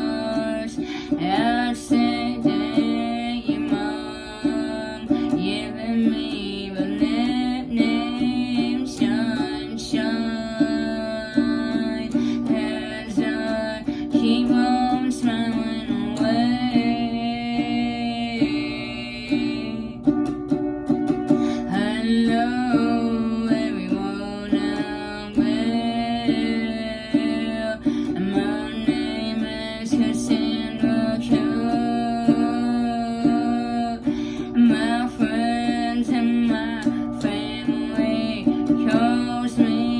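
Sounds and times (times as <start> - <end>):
person singing: 0.0 - 39.9
strummed string instrument chords: 0.0 - 39.9.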